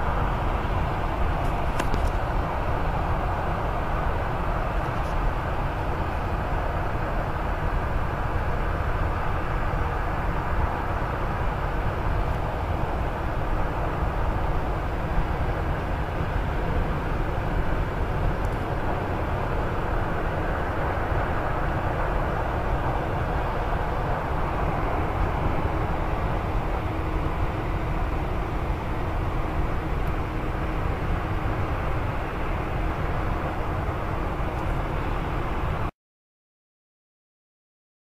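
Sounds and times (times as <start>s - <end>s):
steel mill rumbling: 0.0s - 35.9s.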